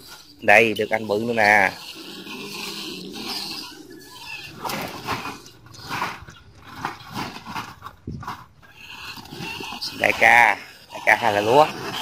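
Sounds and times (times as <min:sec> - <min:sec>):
rats calling: 0:00.0 - 0:12.0
rats scuffling: 0:00.0 - 0:12.0.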